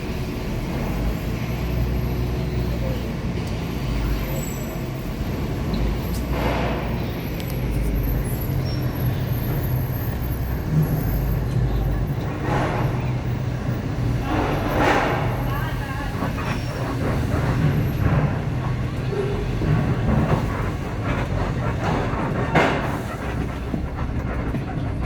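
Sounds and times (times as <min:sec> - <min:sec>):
bus diesel engine humming: 0:00.0 - 0:25.0.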